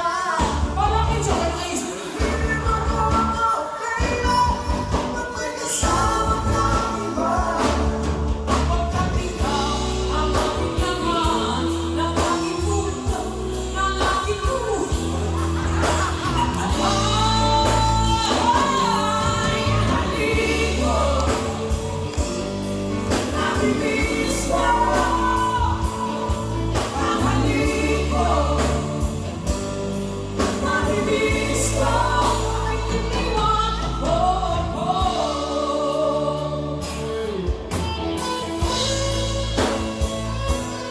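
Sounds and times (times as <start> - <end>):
person singing: 0.0 - 40.9
instrumental backing with bass line: 0.4 - 40.9.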